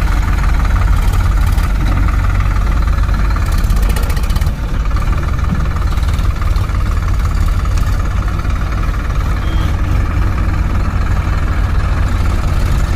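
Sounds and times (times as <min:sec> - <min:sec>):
heavy diesel engine running: 0:00.0 - 0:12.9.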